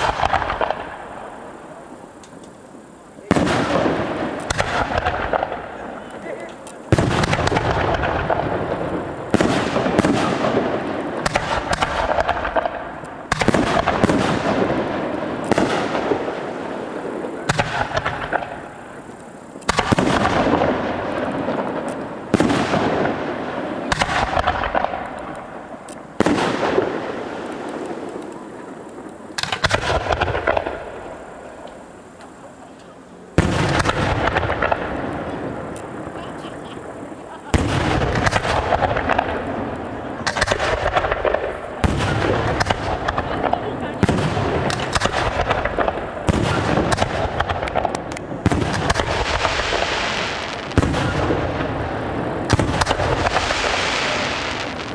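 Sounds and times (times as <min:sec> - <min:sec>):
firework crackling: 0:00.0 - 0:54.9
firework shells bursting: 0:00.0 - 0:54.9.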